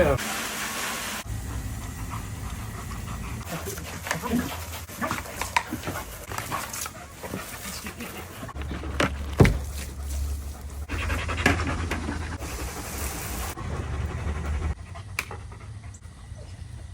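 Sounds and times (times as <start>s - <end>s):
dog panting: 1.3s - 16.9s.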